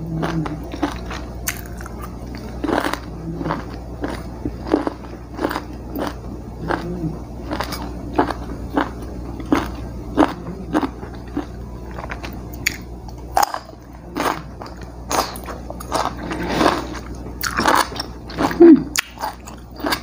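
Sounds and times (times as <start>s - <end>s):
close chewing of food: 0.0s - 20.0s.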